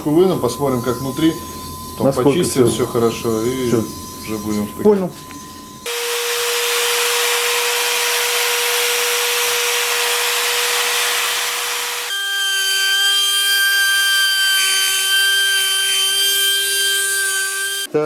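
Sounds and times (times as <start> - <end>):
workshop tool hissing and whining: 0.0 - 17.9.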